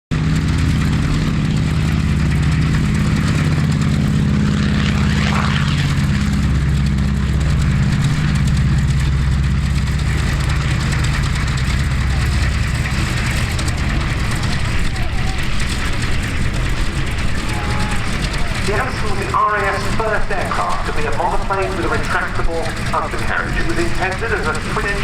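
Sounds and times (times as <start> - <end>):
aircraft engines droning: 0.1 - 25.0.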